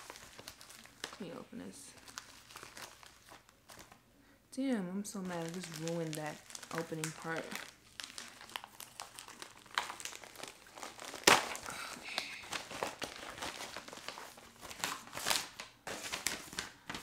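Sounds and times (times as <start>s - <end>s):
packaging crinkling and tearing: 0.0s - 4.0s, 5.1s - 17.0s.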